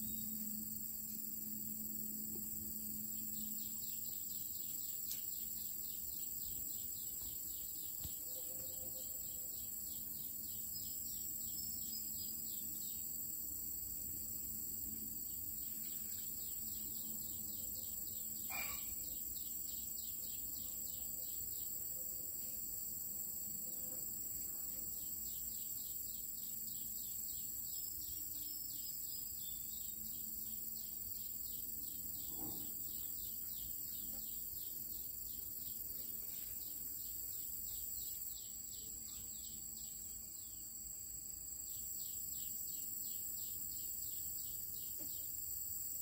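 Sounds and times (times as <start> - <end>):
insects trilling and chirping: 0.0 - 46.0.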